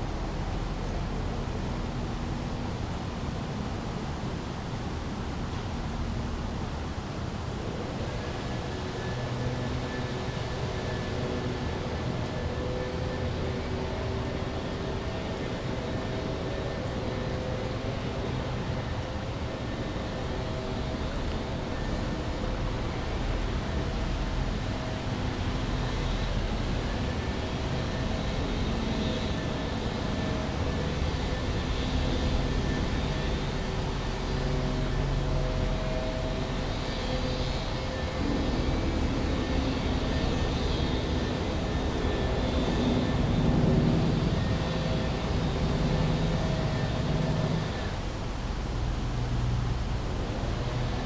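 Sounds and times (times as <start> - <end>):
distant engines humming: 5.2 - 51.0.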